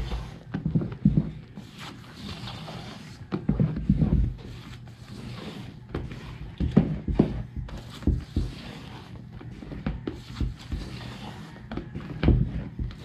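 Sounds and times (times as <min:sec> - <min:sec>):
spatula scraping and knocking bowl: 0:00.0 - 0:13.0.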